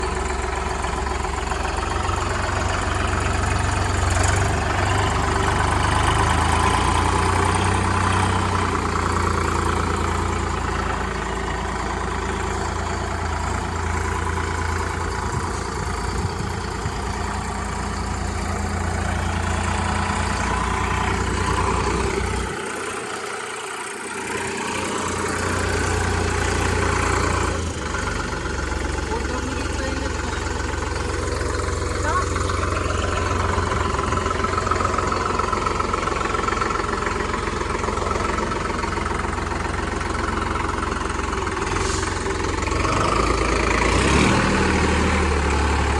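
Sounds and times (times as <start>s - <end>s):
tractor diesel engine idling: 0.0s - 45.9s.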